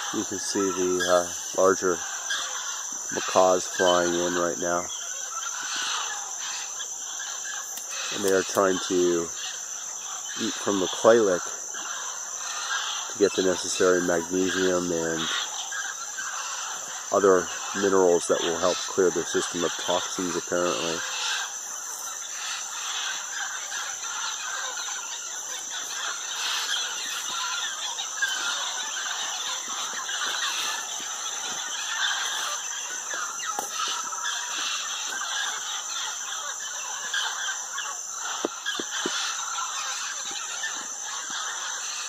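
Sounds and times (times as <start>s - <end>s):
parrots squawking and chattering: 0.0s - 42.0s.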